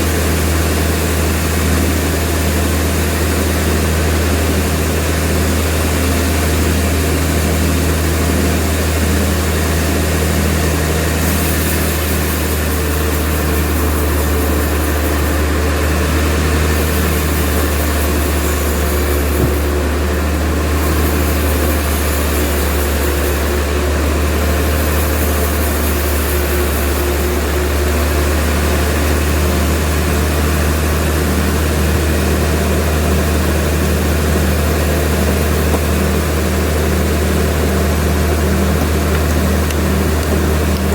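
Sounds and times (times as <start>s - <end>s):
sawmill machinery humming: 0.0s - 40.9s.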